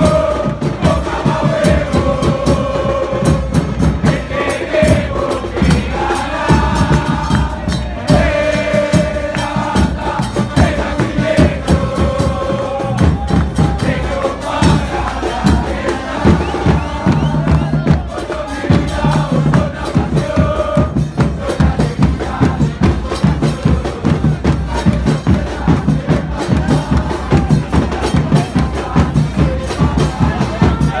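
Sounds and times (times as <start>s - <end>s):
crowd singing a chant: 0.0s - 31.0s
drums beating fast rhythm: 0.0s - 31.0s.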